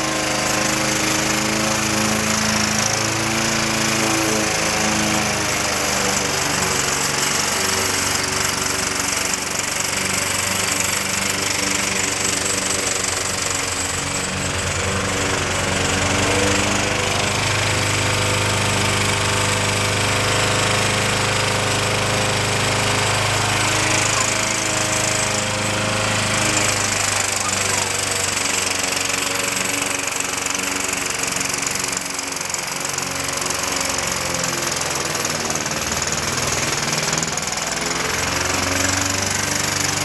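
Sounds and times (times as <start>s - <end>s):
lawn mower engine running: 0.0s - 40.0s.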